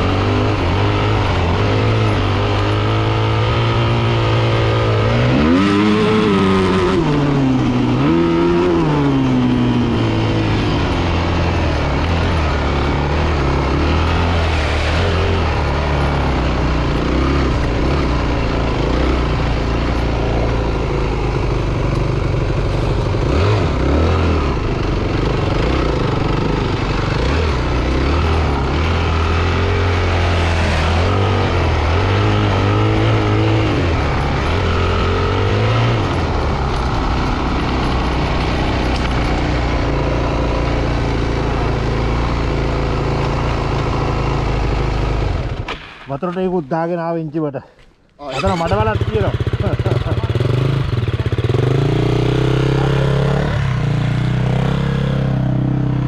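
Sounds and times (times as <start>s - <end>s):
dirt bike engine revving: 0.0s - 45.8s, 48.2s - 56.0s.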